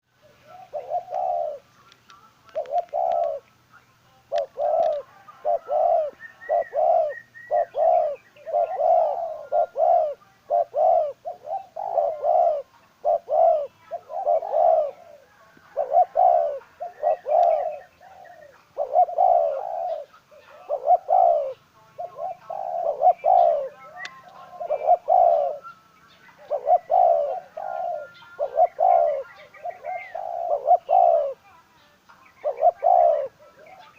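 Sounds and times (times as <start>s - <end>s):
dove cooing: 0.1s - 1.8s, 2.5s - 3.5s, 4.2s - 31.6s, 32.2s - 33.9s.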